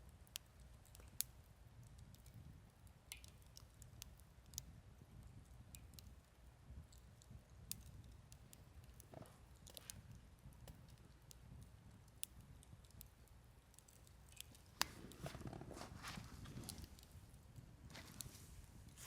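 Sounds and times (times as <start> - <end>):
campfire crackling faintly: 0.0 - 19.0.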